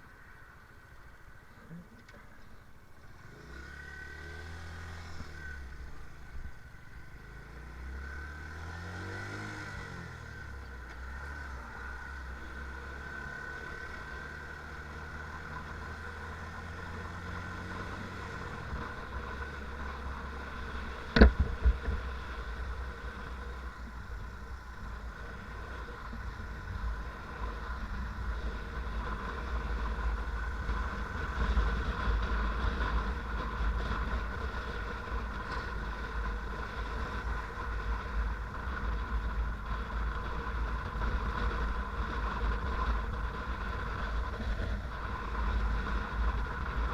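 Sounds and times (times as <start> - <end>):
motorcycle engine running: 3.0 - 46.9.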